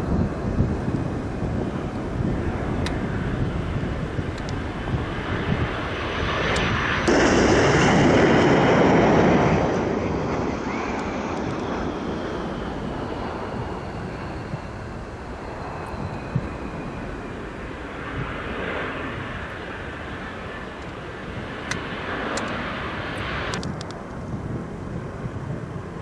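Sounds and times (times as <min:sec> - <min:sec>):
jet engines rushing with high whine: 0:00.0 - 0:26.0.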